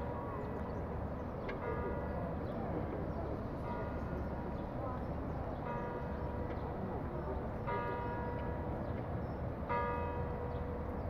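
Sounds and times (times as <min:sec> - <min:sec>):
city background hum: 0:00.0 - 0:11.0.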